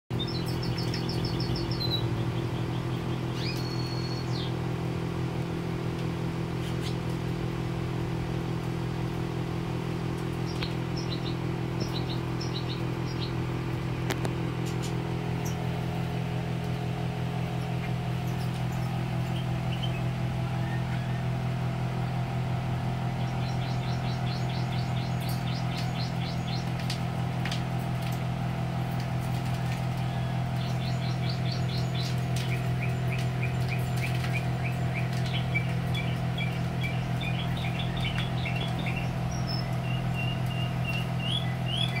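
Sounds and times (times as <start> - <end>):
birds chirping: 0.1 - 42.0
steady low hum: 0.1 - 42.0.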